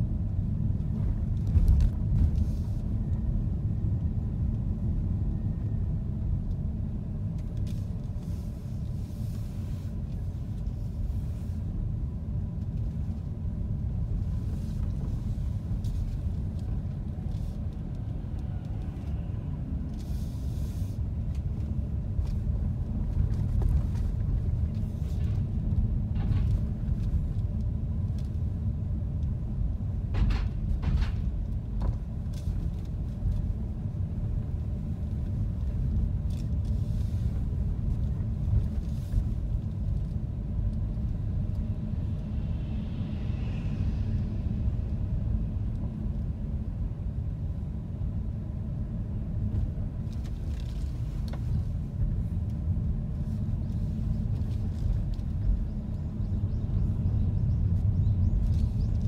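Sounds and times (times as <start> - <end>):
engine and road noise rumble: 0.0 - 59.0.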